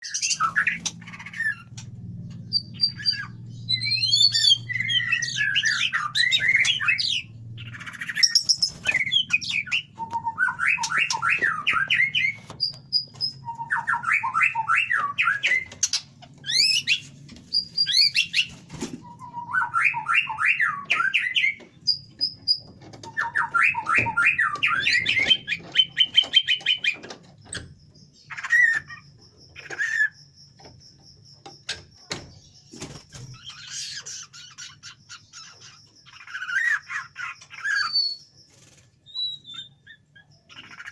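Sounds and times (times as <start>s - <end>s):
bird singing trilled phrases: 0.0s - 40.9s.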